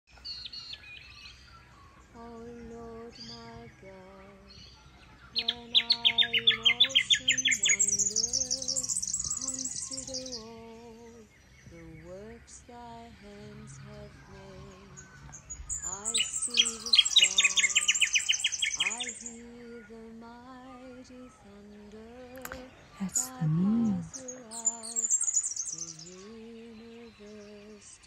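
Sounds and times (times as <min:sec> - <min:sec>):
birds calling: 0:00.1 - 0:28.0.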